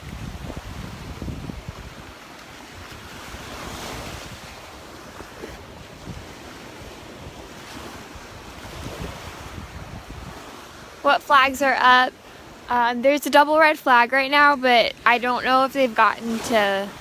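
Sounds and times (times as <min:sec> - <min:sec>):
surf washing on beach: 0:00.0 - 0:17.0
wind buffeting microphone: 0:00.0 - 0:17.0.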